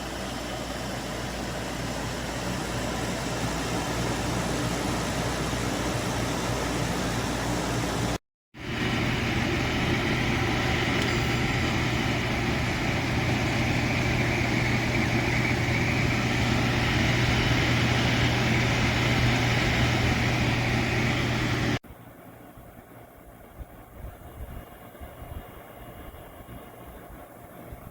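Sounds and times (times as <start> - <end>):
air conditioner fan rushing: 0.0 - 27.9
low compressor hum: 0.0 - 27.9.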